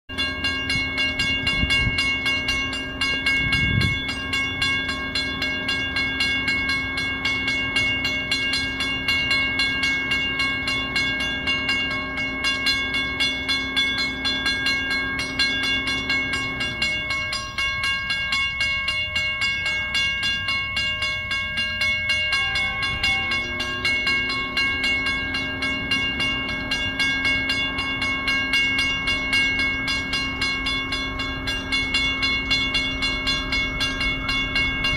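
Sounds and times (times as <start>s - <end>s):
locomotive engine droning: 0.1s - 34.9s.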